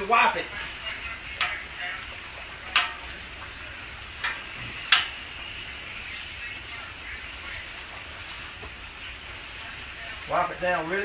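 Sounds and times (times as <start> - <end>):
water sizzling on hot griddle: 0.0 - 11.0.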